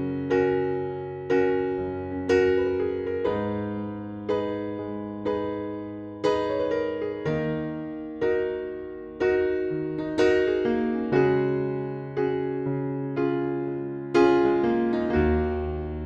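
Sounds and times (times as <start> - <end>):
electric piano chords: 0.0 - 16.0.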